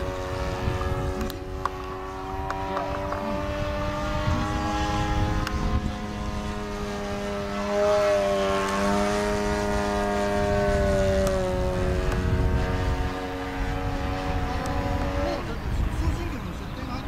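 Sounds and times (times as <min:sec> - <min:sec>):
model airplane engine buzzing: 0:00.0 - 0:17.0.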